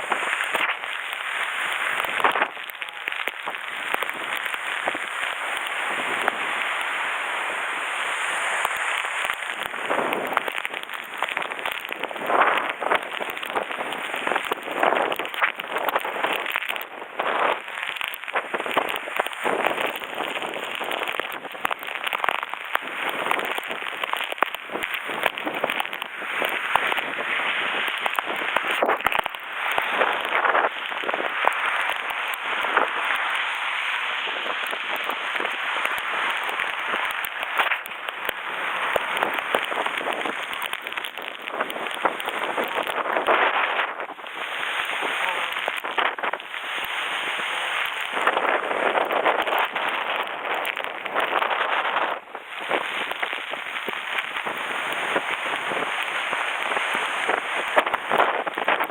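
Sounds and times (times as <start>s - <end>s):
heavy rain pouring: 0.0s - 43.2s, 44.2s - 50.0s, 52.4s - 58.9s.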